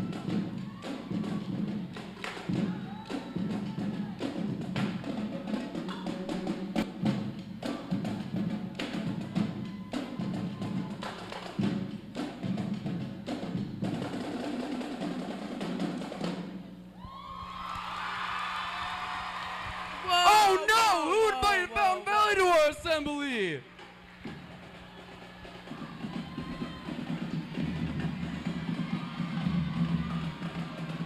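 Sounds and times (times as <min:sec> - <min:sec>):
marching drumline cadence: 0:00.0 - 0:31.0.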